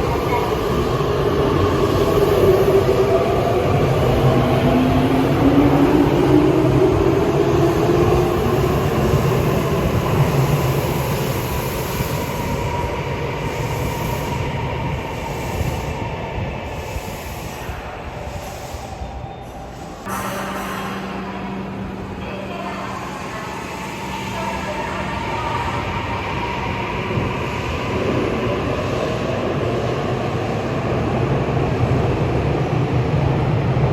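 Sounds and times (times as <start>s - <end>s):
electric train rumbling: 0.0s - 33.9s.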